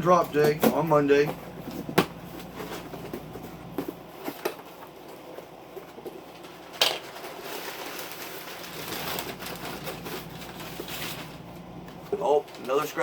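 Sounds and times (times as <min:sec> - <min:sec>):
packaging rustling: 0:02.4 - 0:13.0.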